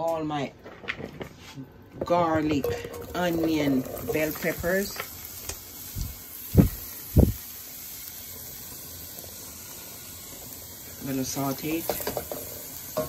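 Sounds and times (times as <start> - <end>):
faint steady hiss: 1.3 - 13.0.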